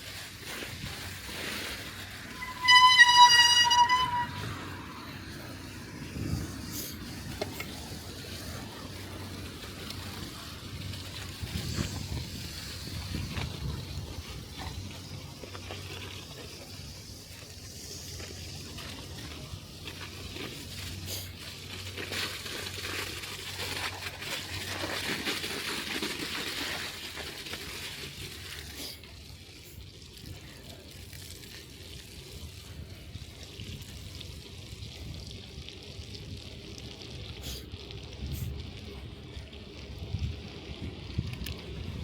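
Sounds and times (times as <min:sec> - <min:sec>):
bicycle tyres hissing on wet road: 0:00.0 - 0:42.0.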